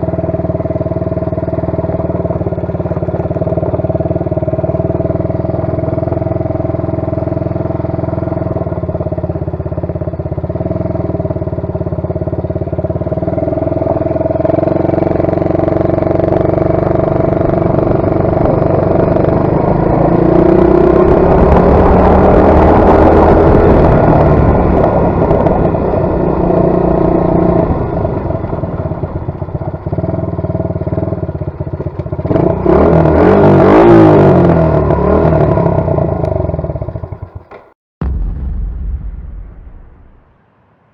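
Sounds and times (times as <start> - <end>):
atv engine revving: 0.0 - 37.6.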